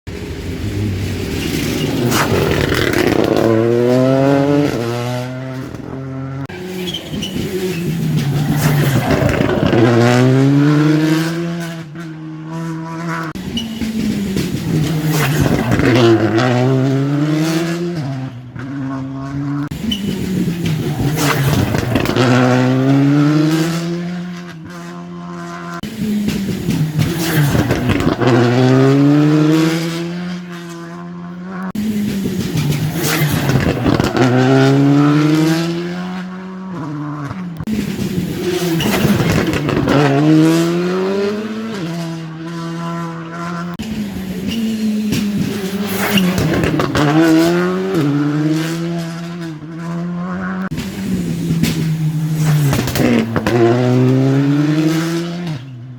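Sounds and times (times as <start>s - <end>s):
rally car engine revving: 0.1s - 55.9s.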